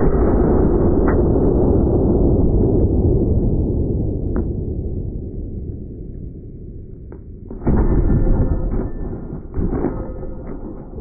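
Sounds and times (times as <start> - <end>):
slowed rifle shot boom: 0.0 - 11.0.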